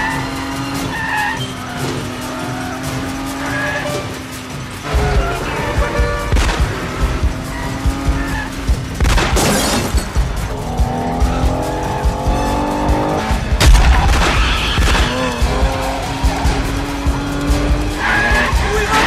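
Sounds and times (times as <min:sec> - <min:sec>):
car engines revving: 0:00.0 - 0:19.0
sharp bangs: 0:00.0 - 0:19.0
tyres squealing: 0:00.0 - 0:19.0.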